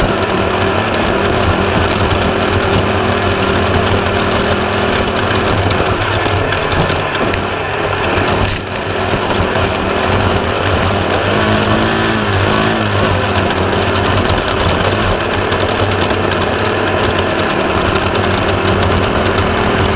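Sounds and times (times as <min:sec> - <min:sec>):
car rattling: 0:00.0 - 0:19.9
race buggy engine running hard: 0:00.0 - 0:19.9.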